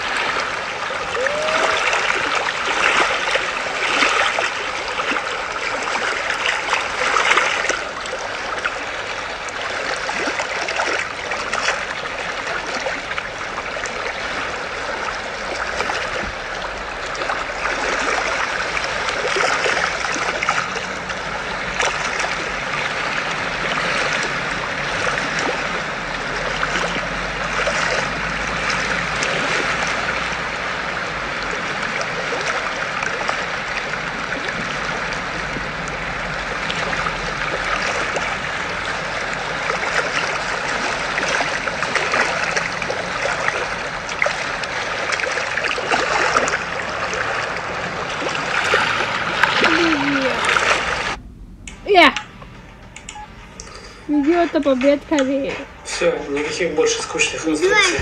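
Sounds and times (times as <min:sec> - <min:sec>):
trickling water from speaker: 0:00.0 - 0:51.2.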